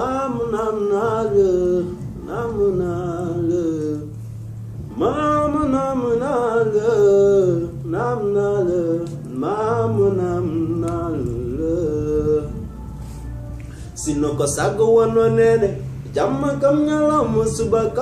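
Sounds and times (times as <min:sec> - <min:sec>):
man singing slow melody: 0:00.0 - 0:18.0.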